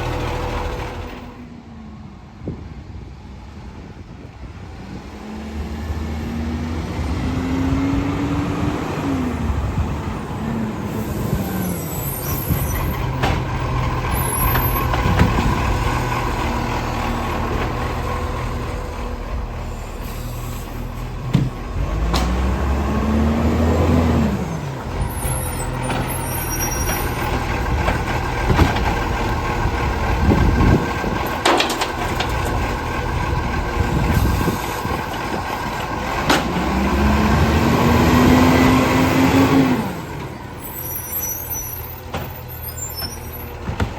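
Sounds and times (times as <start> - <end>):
diesel engine revving: 0.0 - 2.1, 3.6 - 43.9.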